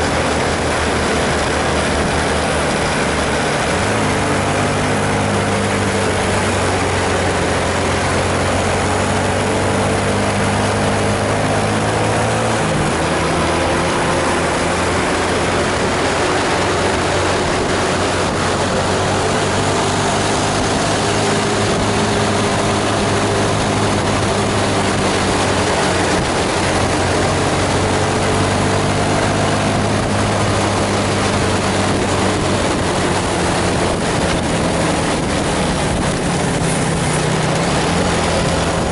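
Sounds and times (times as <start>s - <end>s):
diesel bus engine labouring: 0.0s - 38.9s
road noise: 0.0s - 38.9s.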